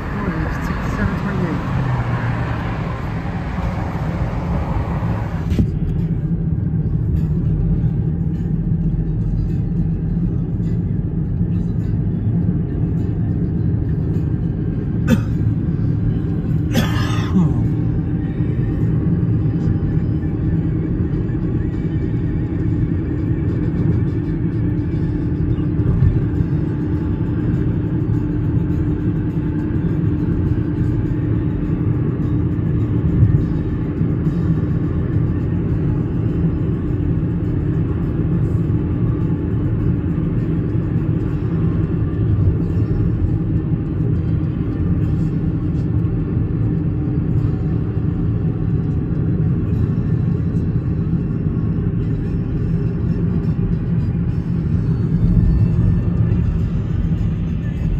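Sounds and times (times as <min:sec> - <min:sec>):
low engine rumble: 0:00.0 - 0:57.9
outdoor noise: 0:00.0 - 0:57.9.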